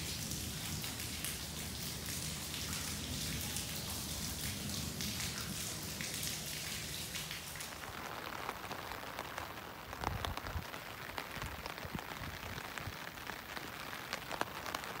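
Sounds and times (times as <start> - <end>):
heavy rain on river: 0.0 - 15.0.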